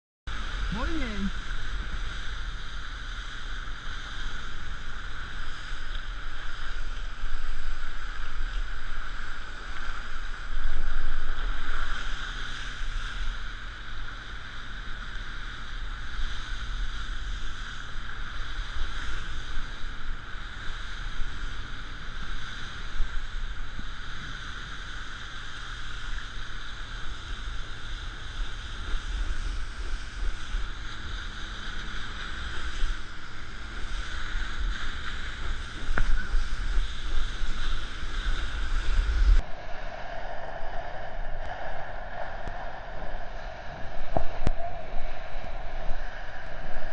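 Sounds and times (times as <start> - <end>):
water rushing: 0.3 - 40.0
wind buffeting microphone: 0.3 - 46.9.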